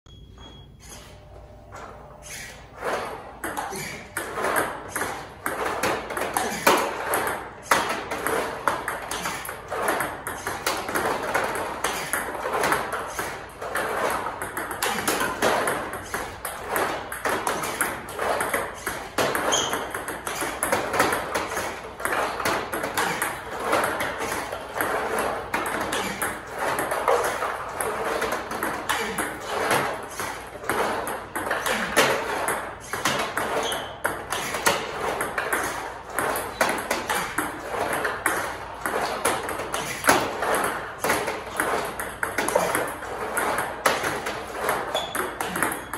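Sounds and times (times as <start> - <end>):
ball bouncing on table: 3.4 - 45.9.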